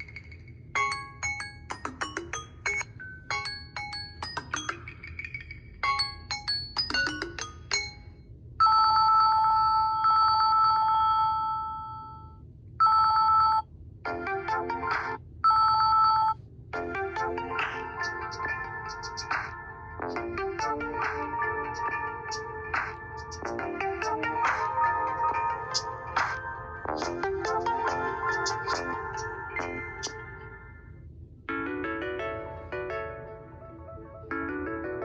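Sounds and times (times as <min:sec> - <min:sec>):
chiming ringtone notes: 0:00.0 - 0:14.6, 0:15.5 - 0:30.6, 0:31.5 - 0:35.0
pulsing two-tone ringtone: 0:00.0 - 0:14.8, 0:15.5 - 0:30.7.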